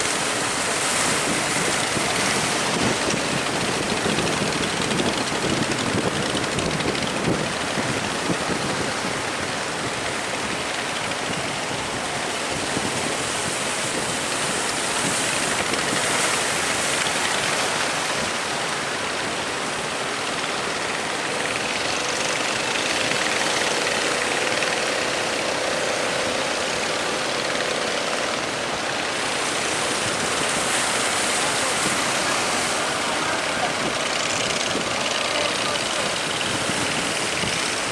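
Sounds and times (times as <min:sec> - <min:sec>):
heavy sea around a ship: 0:00.0 - 0:37.9.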